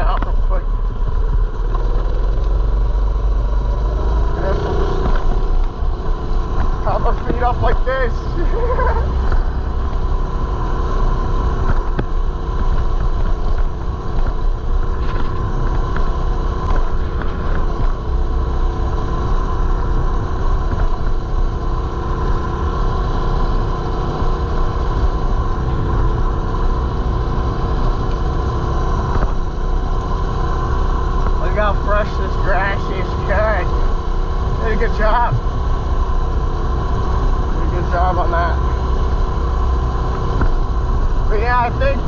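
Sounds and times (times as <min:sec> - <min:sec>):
mini bike engine running: 0:00.0 - 0:42.0.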